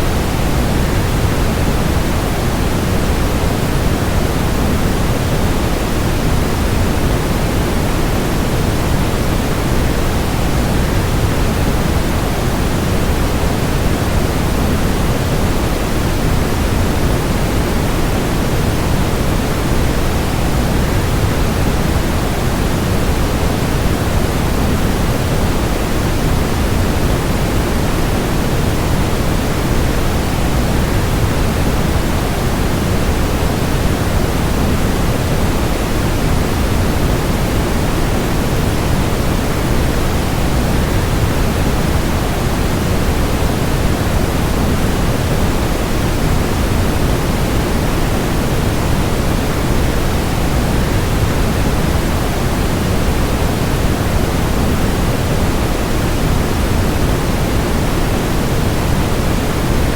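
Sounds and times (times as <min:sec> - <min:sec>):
white noise: 0:00.0 - 0:59.9.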